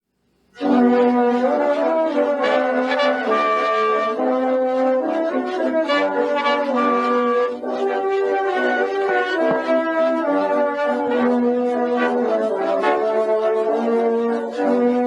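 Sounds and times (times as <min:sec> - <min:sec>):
brass instruments playing held notes: 0:00.6 - 0:15.0.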